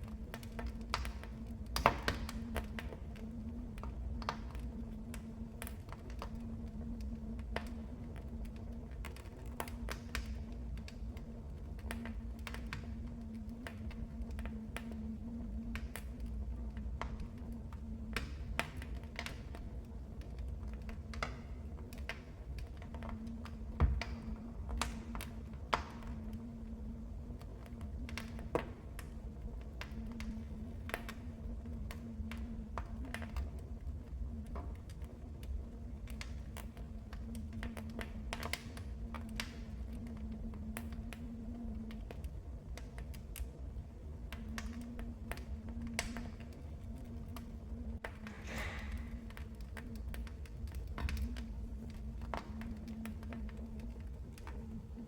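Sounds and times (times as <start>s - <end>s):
low rumble of flames: 0.0s - 55.0s
wood fire crackling: 0.0s - 55.0s.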